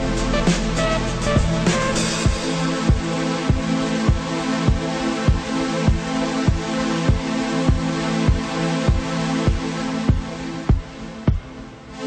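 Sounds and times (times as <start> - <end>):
steady low drum beat: 0.0 - 11.6.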